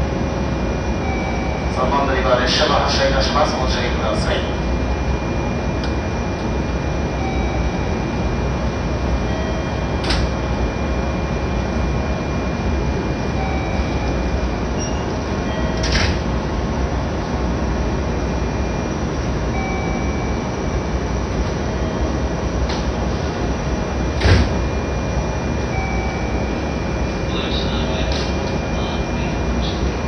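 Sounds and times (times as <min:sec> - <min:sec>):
electric train running noise: 0:00.0 - 0:30.0.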